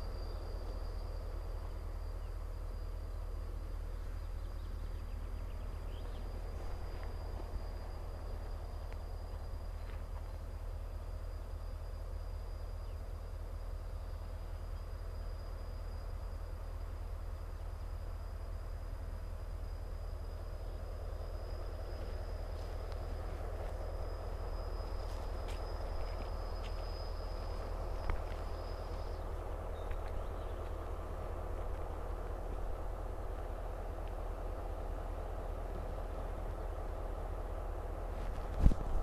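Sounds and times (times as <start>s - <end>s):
freight train rumble: 0.0s - 39.0s
high-pitched whine: 0.0s - 39.0s.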